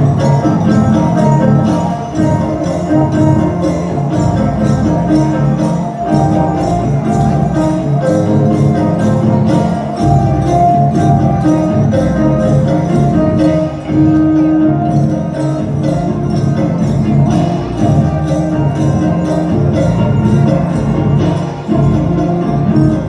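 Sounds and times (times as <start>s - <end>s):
jingling hand bells shaken: 0.0s - 23.0s
music with held melody: 0.0s - 23.0s.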